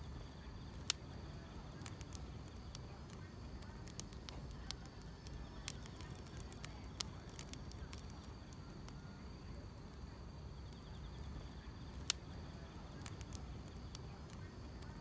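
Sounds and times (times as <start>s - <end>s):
firewood crackling and popping: 0.0s - 15.0s
insects trilling: 0.0s - 15.0s
low rumble of flames: 0.0s - 15.0s.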